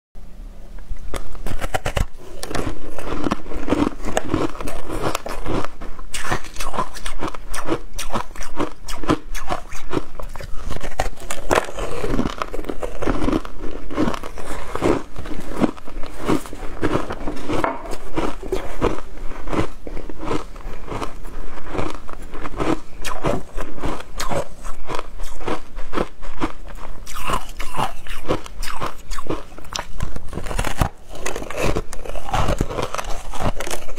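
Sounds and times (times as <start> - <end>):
person chewing ice crunchily: 1.1 - 33.9.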